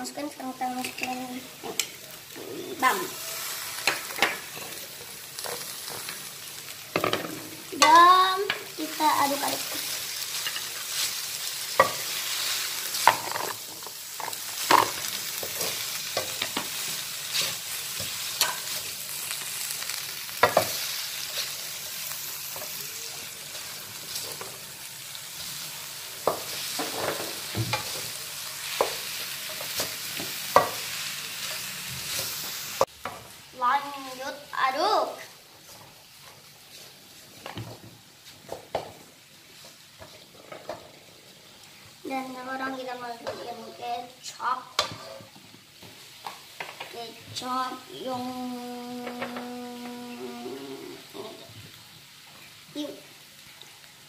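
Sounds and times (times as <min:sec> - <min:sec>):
stir-fry sizzling in a wok: 0:00.0 - 0:54.0.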